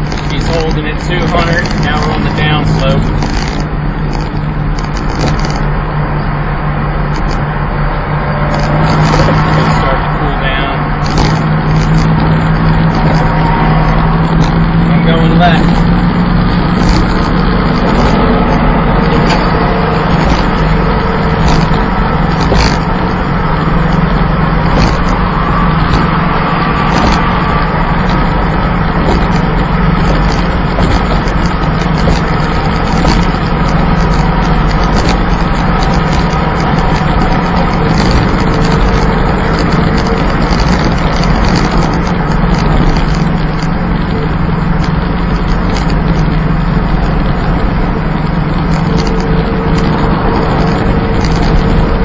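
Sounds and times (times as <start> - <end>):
car engine droning: 0.0 - 52.0
road and wind noise: 0.0 - 52.0.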